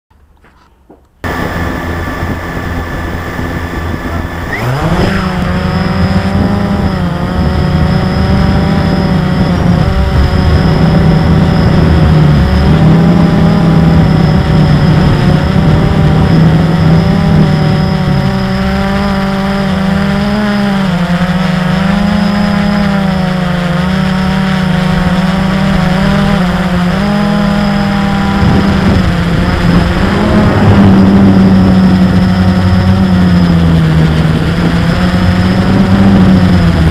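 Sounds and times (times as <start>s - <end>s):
drone propellers buzzing: 1.1s - 36.9s.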